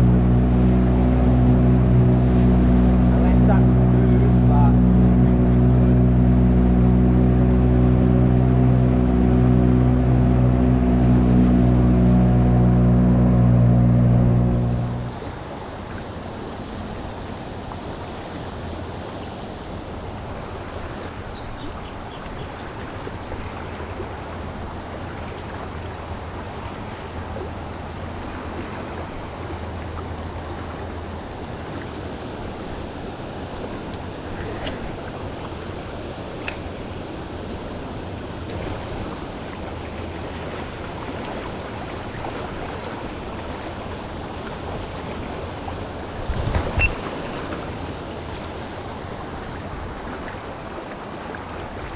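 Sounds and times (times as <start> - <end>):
boat engine hum: 0.0 - 51.9
rushing water: 0.0 - 51.9
wind: 0.0 - 51.9.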